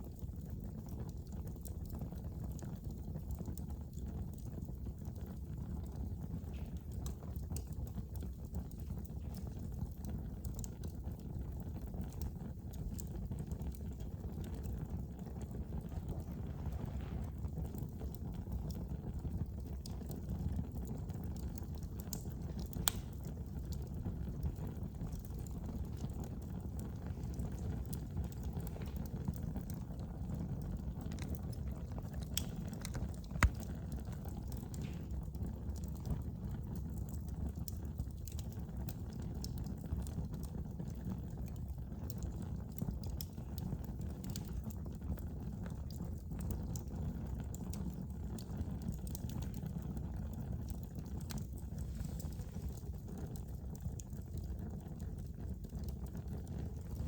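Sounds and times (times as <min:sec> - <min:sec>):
fire crackling and popping: 0:00.0 - 0:57.0
wood fire burning: 0:00.0 - 0:57.0.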